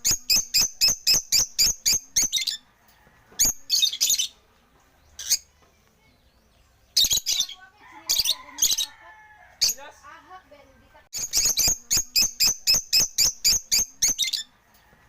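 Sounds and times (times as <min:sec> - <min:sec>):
lovebirds chirping: 0:00.0 - 0:14.8.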